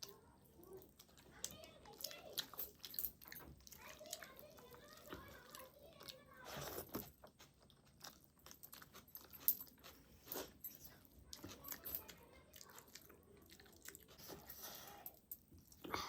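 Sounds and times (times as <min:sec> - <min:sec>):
close chewing and mouth smacks: 0:00.0 - 0:16.0.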